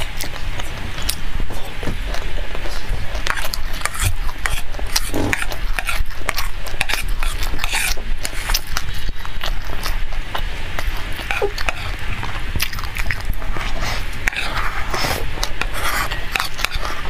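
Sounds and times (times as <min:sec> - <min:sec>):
chewing crunchy seeds: 0:00.0 - 0:17.0
steady low hum: 0:00.0 - 0:17.0.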